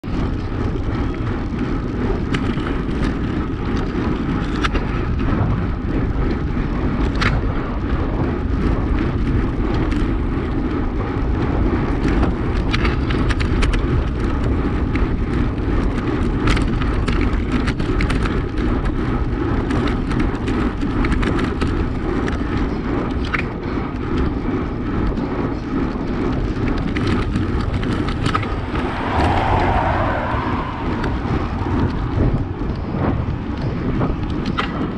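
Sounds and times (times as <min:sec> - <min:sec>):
bike knocking and rattling: 0:00.0 - 0:29.5, 0:31.8 - 0:34.9
tyres and wind rumble: 0:00.0 - 0:34.9.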